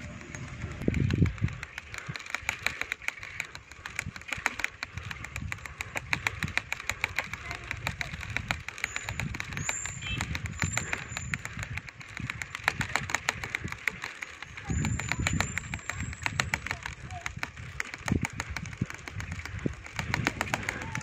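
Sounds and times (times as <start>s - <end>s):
bicycle rattling on rough path: 0.0s - 21.0s
wind rumbling on microphone: 0.0s - 21.0s.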